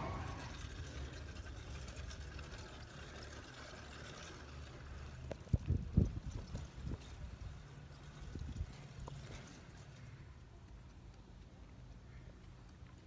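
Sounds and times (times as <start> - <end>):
wind and road rumble: 0.0 - 2.2, 4.5 - 13.0.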